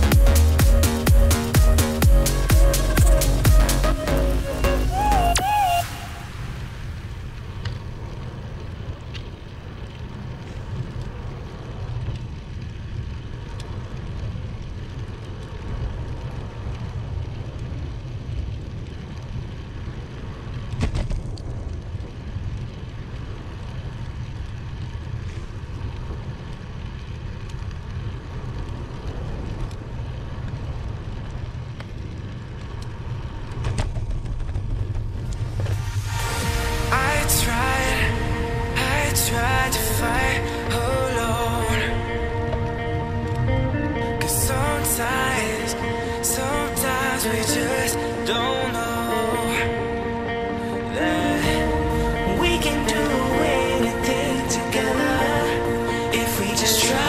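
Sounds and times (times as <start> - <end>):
wind and riding noise: 3.2 - 57.0.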